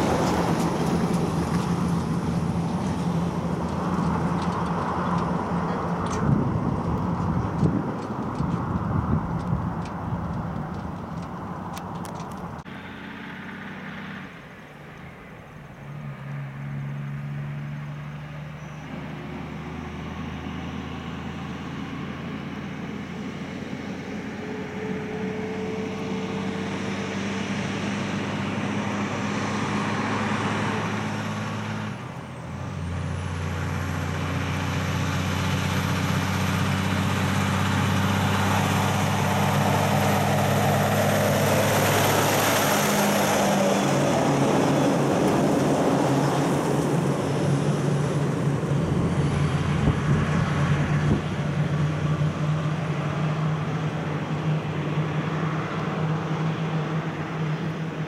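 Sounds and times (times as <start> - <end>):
truck diesel engine accelerating: 0.0 - 58.0.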